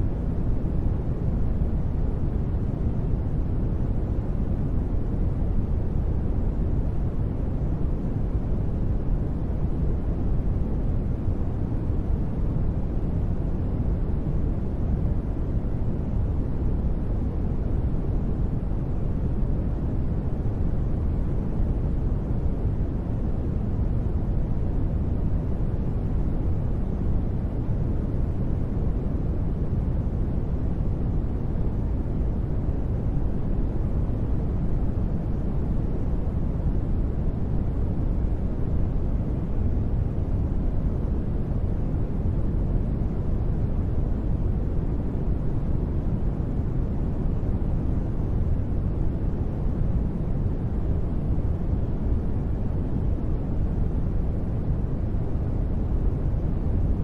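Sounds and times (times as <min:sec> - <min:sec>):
deep white noise: 0:00.0 - 0:57.0.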